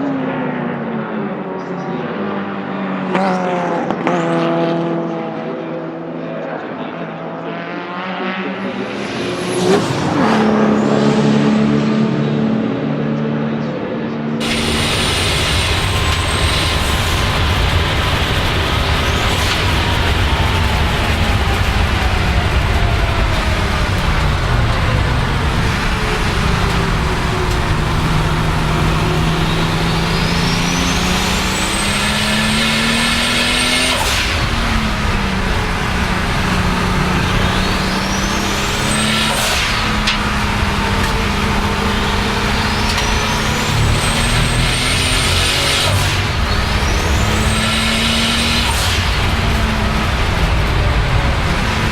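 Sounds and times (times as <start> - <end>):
car engine at full throttle: 0.0 - 51.9.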